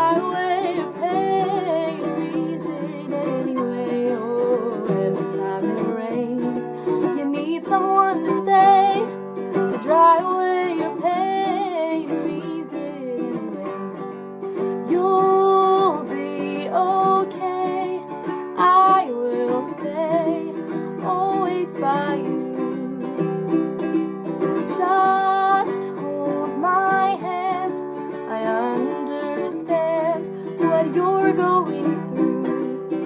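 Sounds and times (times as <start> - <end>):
person singing: 0.0 - 33.0
plucked ukulele chords: 0.0 - 33.0.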